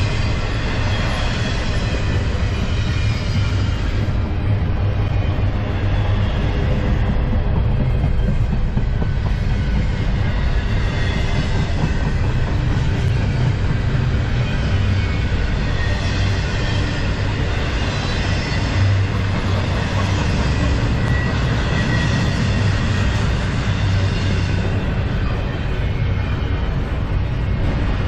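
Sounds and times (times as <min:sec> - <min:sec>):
freight train wheels on rails: 0:00.0 - 0:28.0.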